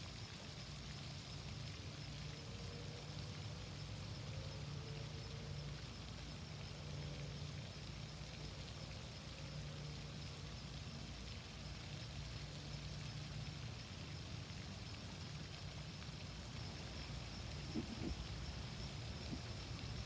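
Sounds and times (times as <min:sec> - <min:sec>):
low steady hum: 0:00.0 - 0:20.0
stream running water: 0:00.0 - 0:20.0.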